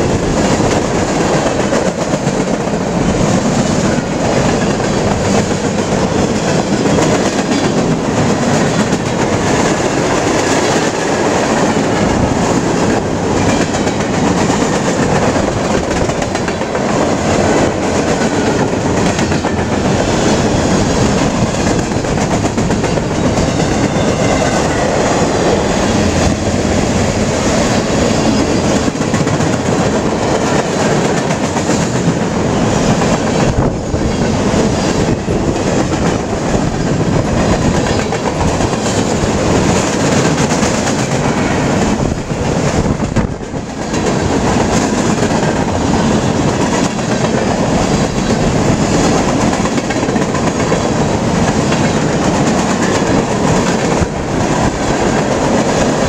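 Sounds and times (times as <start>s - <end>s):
freight train cars rolling past: 0.0s - 56.0s.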